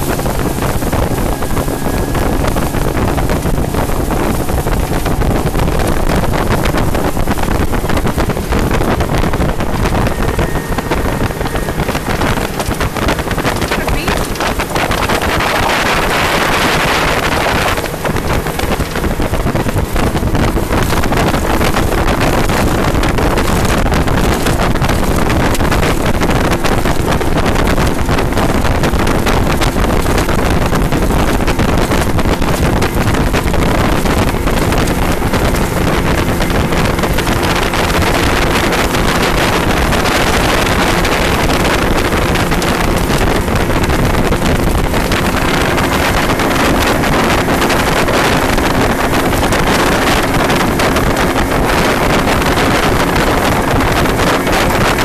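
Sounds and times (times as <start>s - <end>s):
outboard motor running: 0.0s - 55.0s
wind buffeting microphone: 0.0s - 55.0s.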